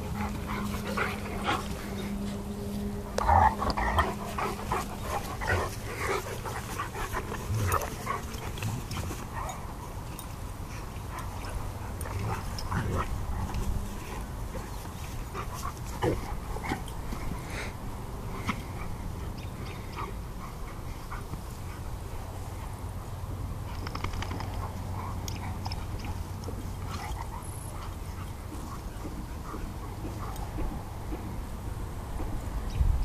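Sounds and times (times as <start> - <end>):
dog play noises: 0.0 - 32.8.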